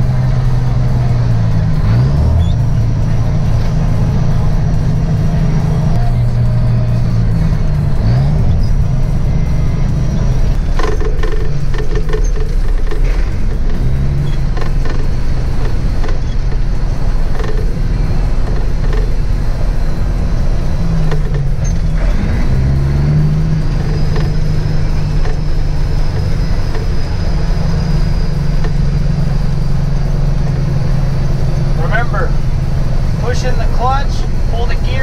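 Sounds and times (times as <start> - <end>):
cab creaks and rattles: 0.0 - 35.0
truck diesel engine running: 0.0 - 35.0.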